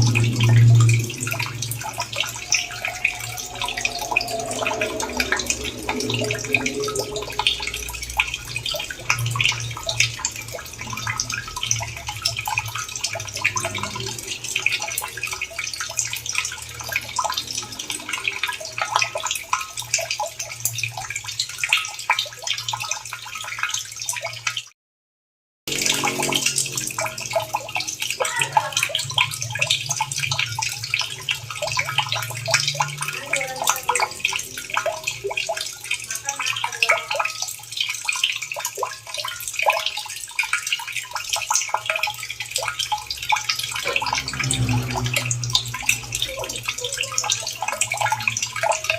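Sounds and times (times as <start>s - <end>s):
running water splashing: 0.0s - 24.7s, 25.7s - 48.9s
water drips: 0.0s - 24.7s, 25.7s - 48.9s.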